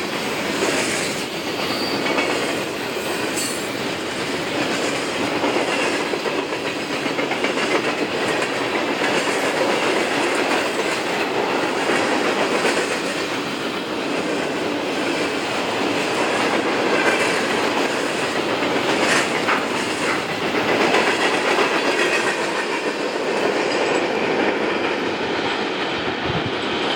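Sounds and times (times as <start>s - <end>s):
freight train wheels on rail: 0.0s - 26.9s.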